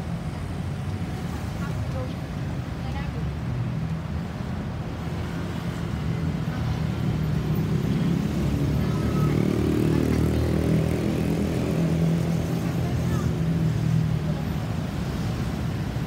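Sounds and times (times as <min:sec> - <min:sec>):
heavy road traffic rumble: 0:00.0 - 0:16.0.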